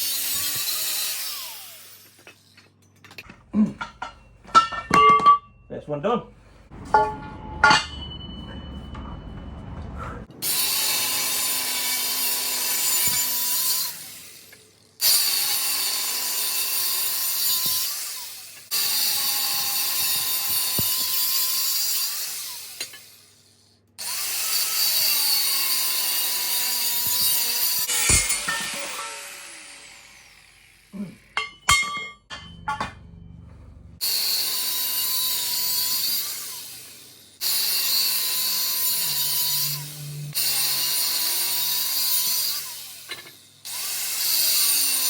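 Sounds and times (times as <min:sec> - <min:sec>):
abrasive disc cutting steel: 0:00.0 - 0:02.6, 0:10.3 - 0:23.2, 0:24.0 - 0:45.0.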